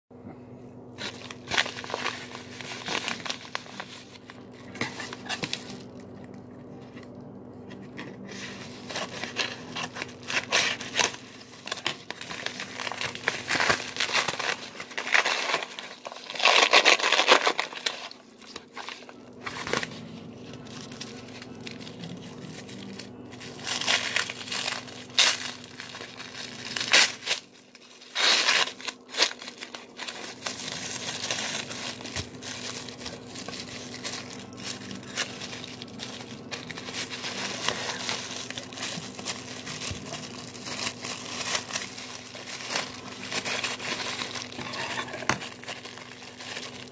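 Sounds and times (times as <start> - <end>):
paper mailer tearing: 1.0 - 6.0, 8.2 - 46.9
paper wrapping rustling: 1.0 - 46.9.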